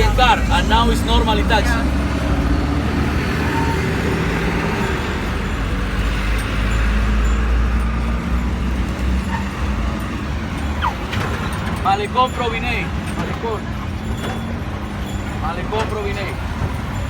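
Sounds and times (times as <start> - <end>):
car engine rumble: 0.0 - 17.0
road traffic noise: 0.0 - 17.0.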